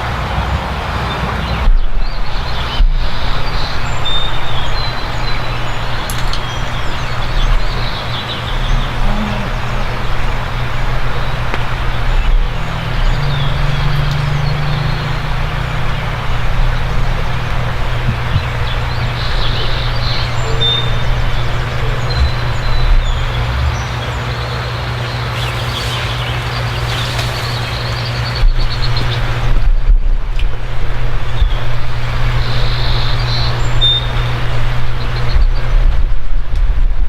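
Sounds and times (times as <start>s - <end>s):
birds chirping: 0.0s - 30.0s, 30.6s - 35.9s
vehicle engine running: 0.0s - 37.0s.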